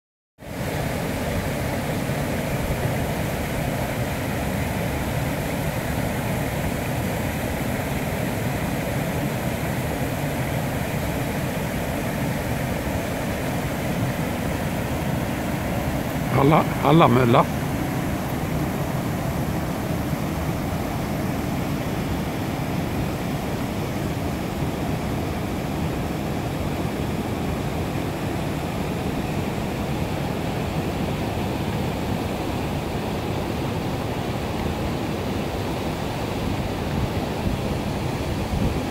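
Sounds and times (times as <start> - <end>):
stream rushing over stones: 0.4 - 38.9.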